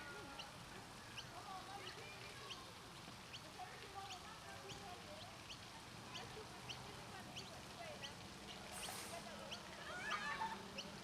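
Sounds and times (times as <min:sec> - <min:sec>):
background noise: 0:00.0 - 0:11.0.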